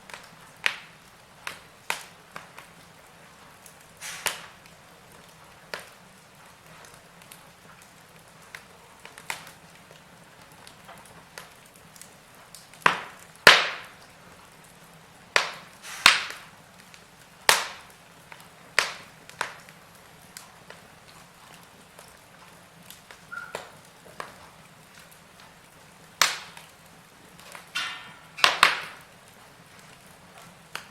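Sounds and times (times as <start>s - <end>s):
faint steady hiss: 0.0s - 30.9s
wood fire crackling and popping: 0.0s - 30.9s.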